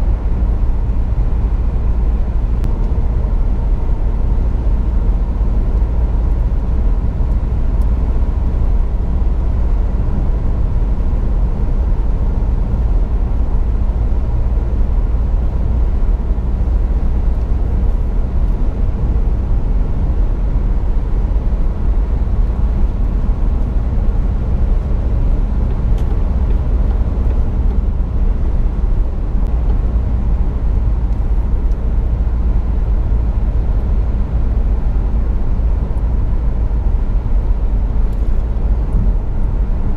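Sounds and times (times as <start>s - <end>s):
car cabin road and engine noise: 0.0s - 39.9s.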